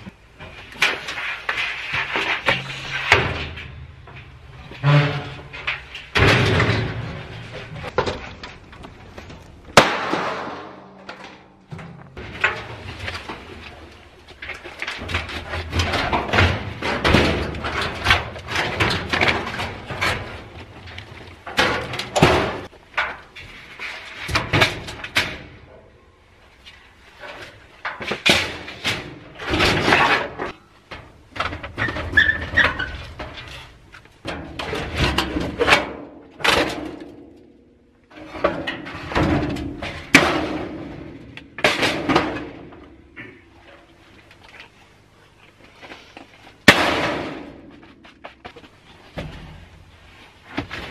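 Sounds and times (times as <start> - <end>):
metal clattering and banging: 0.0 - 25.8, 27.2 - 43.9, 46.6 - 49.8.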